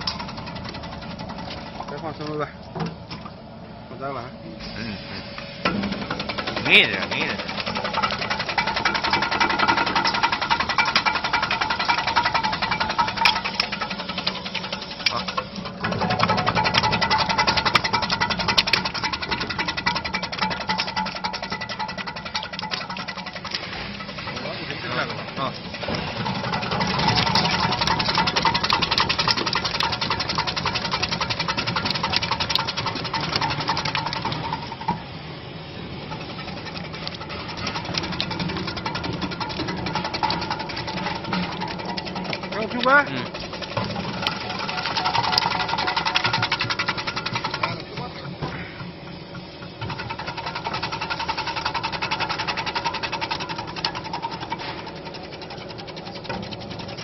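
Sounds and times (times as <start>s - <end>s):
slicing machine clattering: 0.0s - 2.4s, 5.7s - 35.0s, 36.0s - 48.4s, 49.2s - 57.0s.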